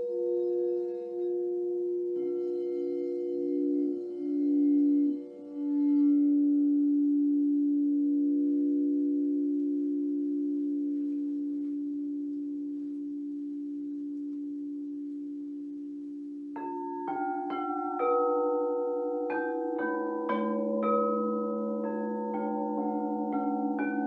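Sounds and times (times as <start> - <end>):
faint higher bowl tones: 0.0 - 24.0
singing bowls ringing low tone: 0.0 - 24.0.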